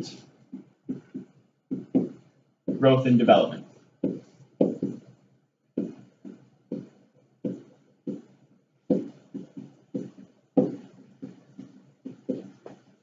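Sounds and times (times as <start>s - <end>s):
pen on whiteboard: 0.0s - 13.0s.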